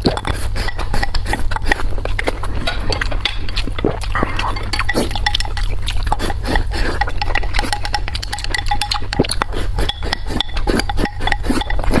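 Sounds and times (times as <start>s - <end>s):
steady low hum: 0.0s - 12.0s
utensil clinking against a dish: 0.0s - 12.0s
wet chewing clicks: 0.0s - 12.0s.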